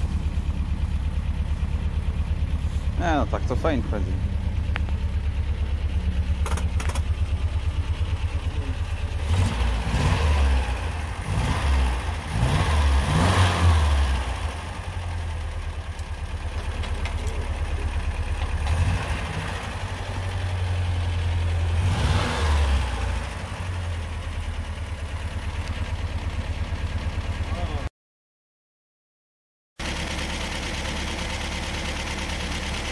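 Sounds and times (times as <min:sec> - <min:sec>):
car engine idling and revving: 0:00.0 - 0:27.9, 0:29.8 - 0:32.9.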